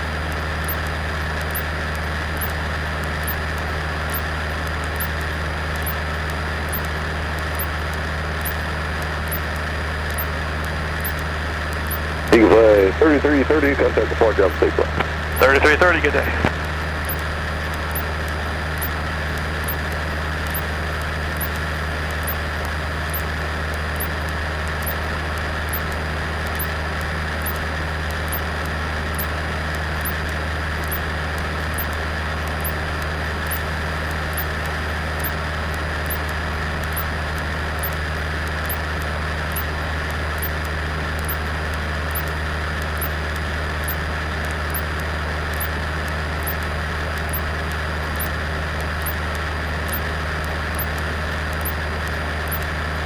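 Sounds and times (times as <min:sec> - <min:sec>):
small plane engine drone: 0:00.0 - 0:53.0
faint clicks: 0:00.3 - 0:52.7.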